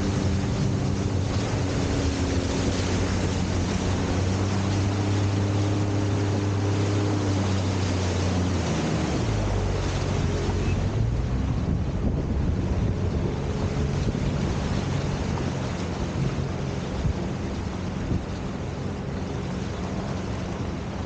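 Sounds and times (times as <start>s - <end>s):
jet ski engine running: 0.0s - 21.0s
wind and water rushing: 0.0s - 21.0s.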